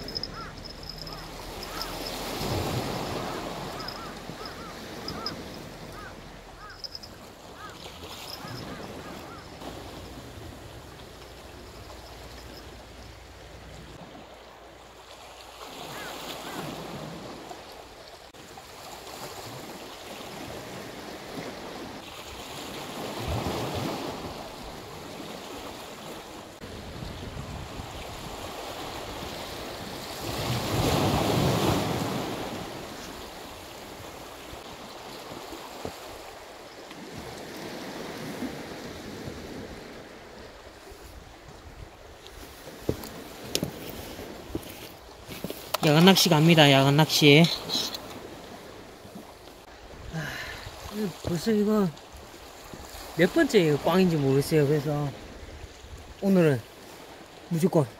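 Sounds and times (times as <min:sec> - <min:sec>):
sea waves washing ashore: 0:00.0 - 0:57.9
wind: 0:00.0 - 0:57.9.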